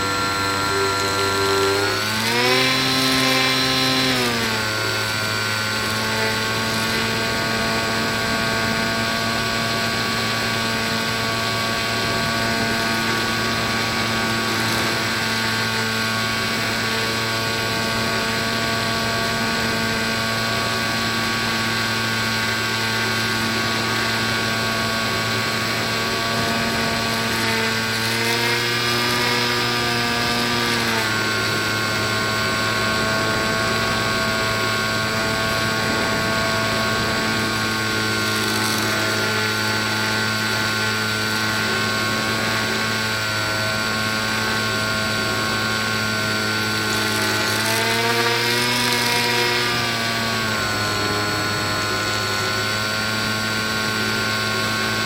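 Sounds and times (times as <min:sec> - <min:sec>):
electric propeller motor whine: 0:00.0 - 0:55.0.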